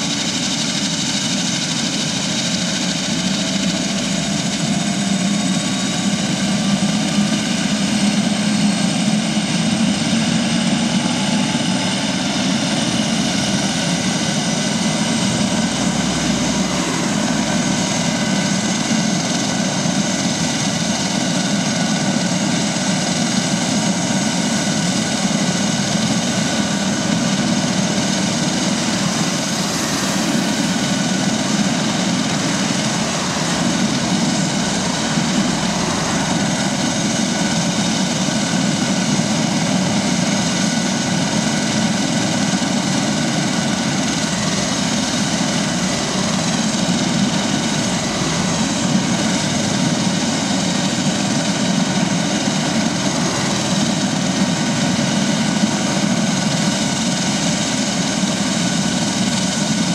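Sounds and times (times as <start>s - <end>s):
helicopter engine whine: 0.0s - 59.9s
helicopter rotor hum: 0.0s - 59.9s.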